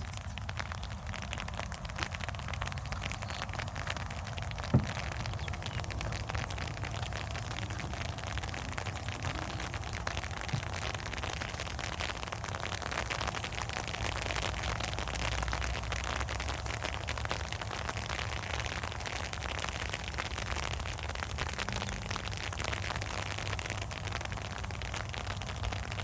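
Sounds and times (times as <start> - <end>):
low continuous rumble: 0.0 - 26.0
steady rain falling: 0.0 - 26.0.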